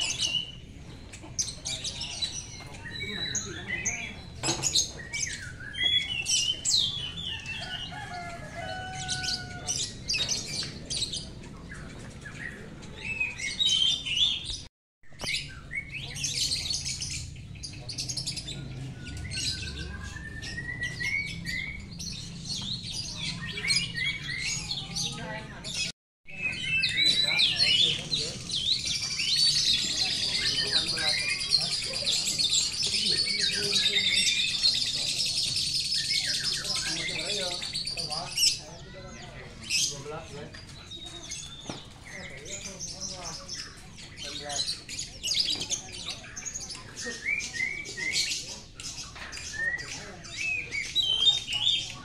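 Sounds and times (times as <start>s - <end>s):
birds singing: 0.0s - 52.0s.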